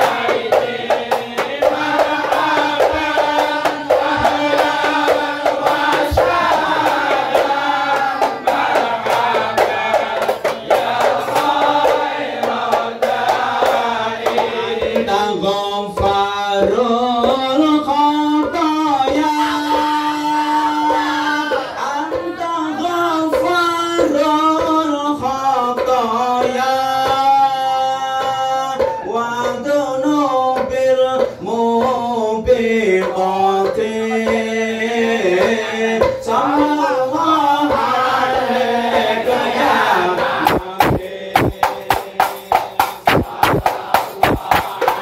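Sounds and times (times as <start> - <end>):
frame drums beating: 0.0 - 45.0
men singing in unison: 0.0 - 45.0.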